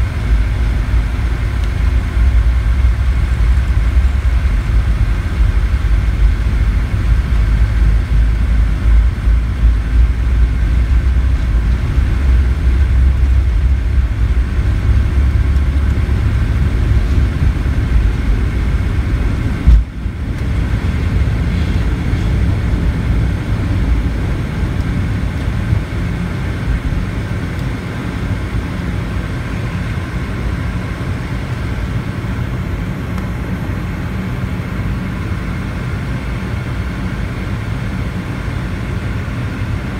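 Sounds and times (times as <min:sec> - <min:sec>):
jet engines at takeoff thrust: 0:00.0 - 0:39.9
wheels rumbling on runway: 0:00.0 - 0:39.9.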